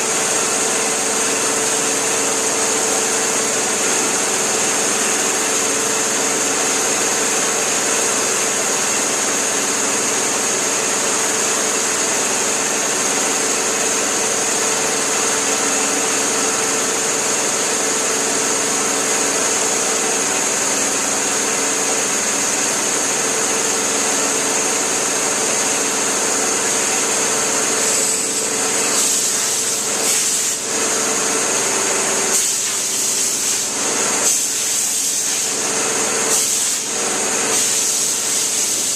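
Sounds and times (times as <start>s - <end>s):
machinery hiss and whine: 0.0s - 38.9s.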